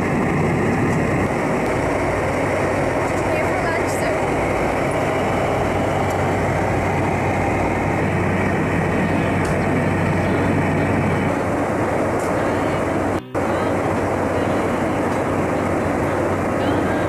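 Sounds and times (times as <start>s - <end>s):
aircraft cabin roar: 0.0s - 17.0s
constant low hum: 0.0s - 17.0s.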